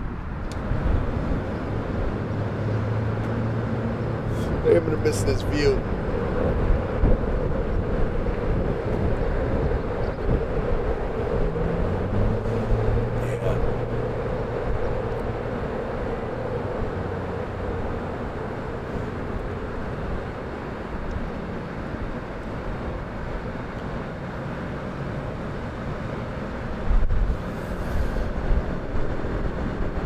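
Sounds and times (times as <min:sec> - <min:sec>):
wind noise: 0:00.0 - 0:23.6, 0:26.7 - 0:30.0
traffic hum: 0:00.0 - 0:30.0.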